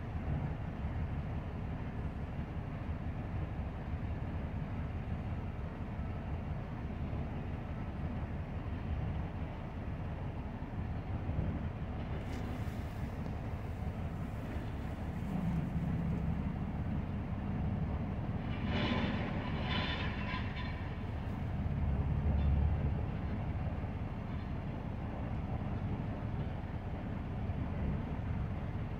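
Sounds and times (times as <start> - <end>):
excavator diesel rumble: 0.0 - 28.9.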